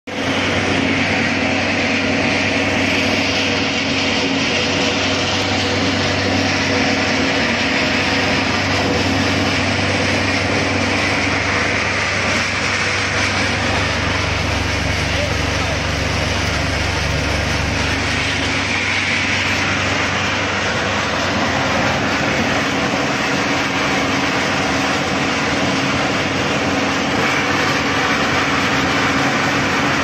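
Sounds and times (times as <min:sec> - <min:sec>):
low hum: 0:00.1 - 0:30.0
machine running loudly: 0:00.1 - 0:30.0.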